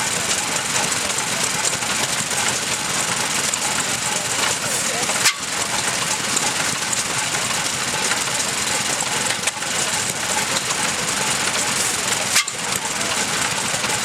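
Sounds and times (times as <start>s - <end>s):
stationary gas engine running: 0.0s - 14.0s.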